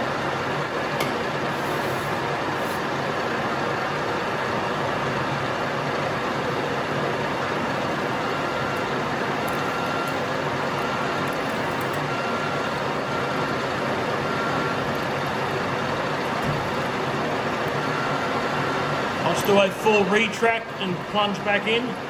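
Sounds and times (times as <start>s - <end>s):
metal lathe running: 0.0s - 22.0s.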